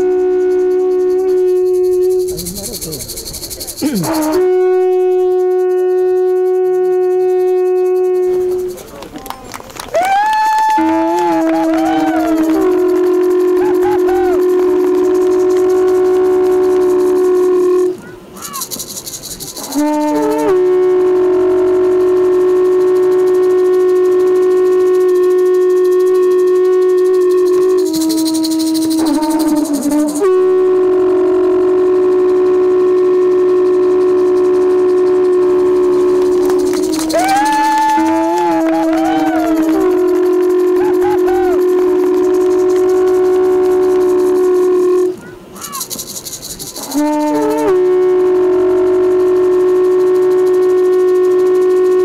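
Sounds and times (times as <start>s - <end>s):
horn trumpet long note: 0.0s - 2.4s, 3.9s - 8.8s, 10.0s - 18.0s, 19.6s - 45.2s, 46.8s - 52.0s.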